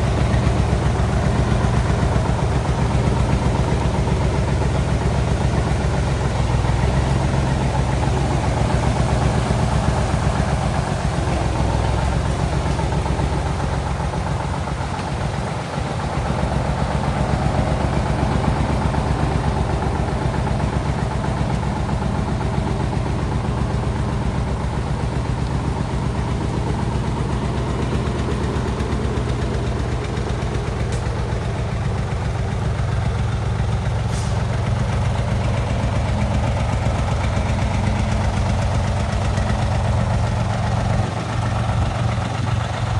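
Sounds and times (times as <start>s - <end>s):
heavy truck engine running: 0.0s - 42.9s.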